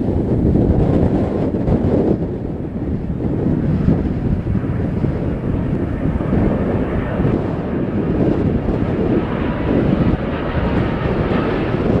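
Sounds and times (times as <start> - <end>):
jet engines roaring: 0.0 - 12.0
wind buffeting the microphone: 0.0 - 12.0.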